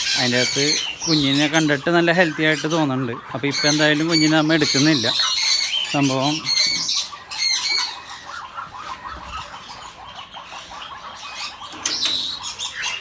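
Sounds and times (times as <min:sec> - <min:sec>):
parrot squawking: 0:00.0 - 0:13.0.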